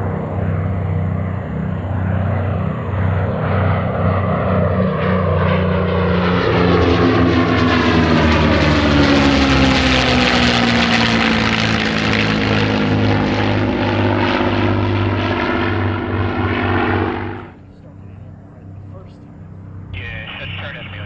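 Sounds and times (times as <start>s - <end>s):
propeller warplane engine drone: 0.0s - 21.0s.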